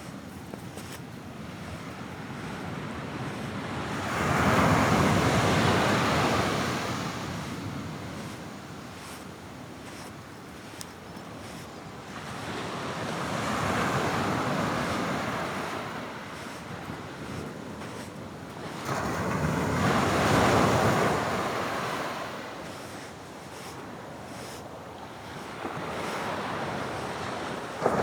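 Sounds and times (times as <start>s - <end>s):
waves breaking on shore: 0.0s - 28.0s.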